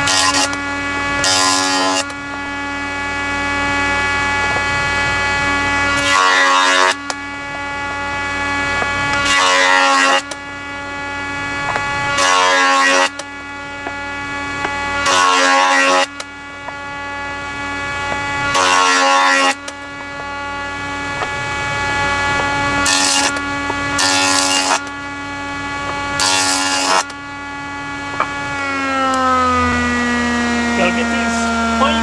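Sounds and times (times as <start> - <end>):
motor winding down: 0.0 - 32.0
power tool motor running: 0.0 - 32.0
saw cutting wood: 0.0 - 32.0.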